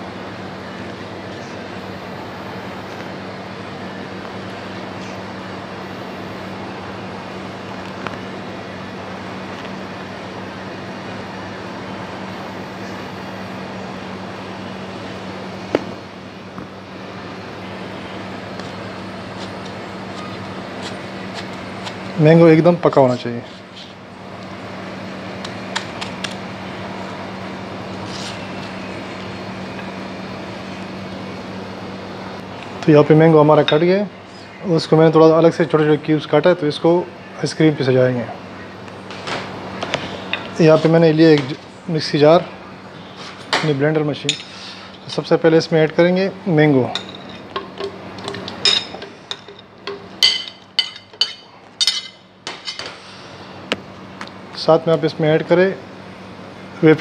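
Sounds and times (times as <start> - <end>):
background hum and hiss: 0.0 - 57.0.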